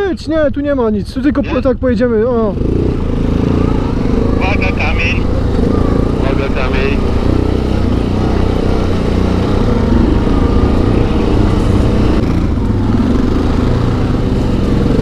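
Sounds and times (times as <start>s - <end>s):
quad bike engine running: 1.3s - 15.0s.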